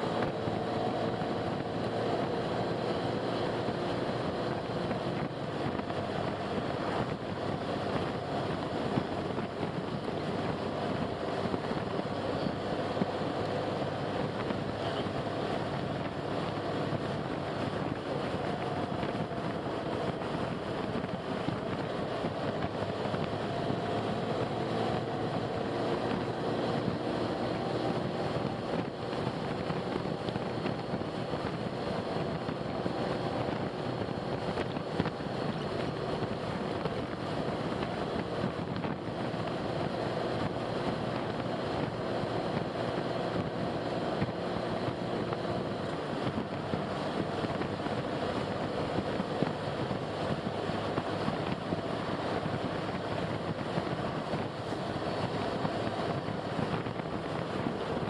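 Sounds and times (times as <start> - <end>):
faint car engine hum: 0.0 - 58.0
tyre and wind noise: 0.0 - 58.0.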